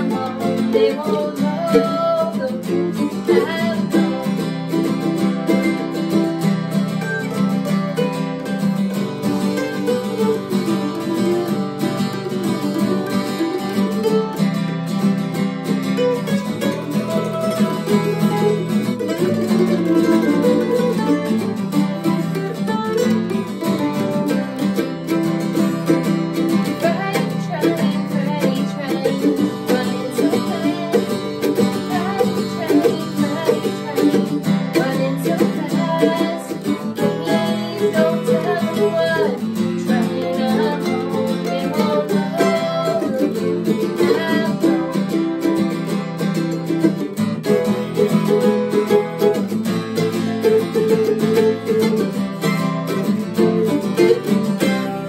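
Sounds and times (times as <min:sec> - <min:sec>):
acoustic guitar: 0:00.0 - 0:55.0
mandolin: 0:00.0 - 0:55.0.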